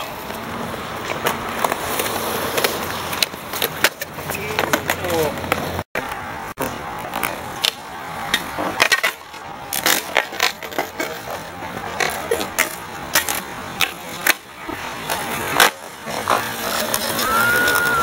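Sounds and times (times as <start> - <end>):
skateboard popping and landing: 0.0 - 18.0
skateboard wheels rolling on concrete: 0.0 - 18.0.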